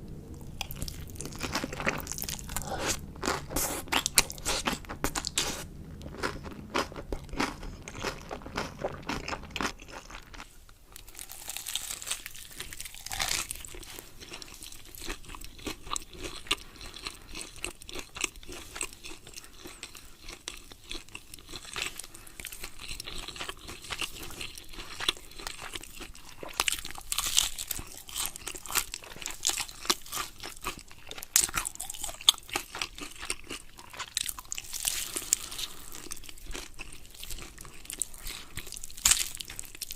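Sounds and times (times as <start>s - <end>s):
crunchy food being chewed: 0.4s - 39.9s.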